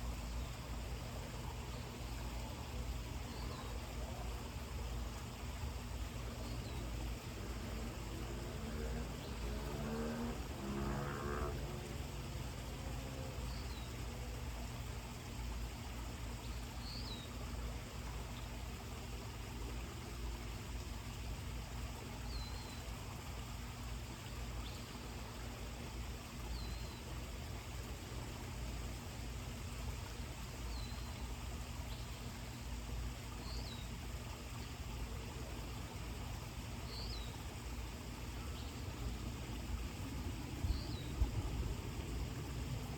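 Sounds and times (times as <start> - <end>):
low outdoor background: 0.0 - 42.9.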